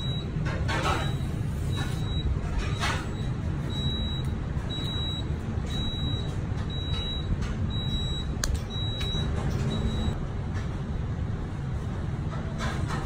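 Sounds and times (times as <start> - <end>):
kitchen extractor hood rumble: 0.0 - 13.0.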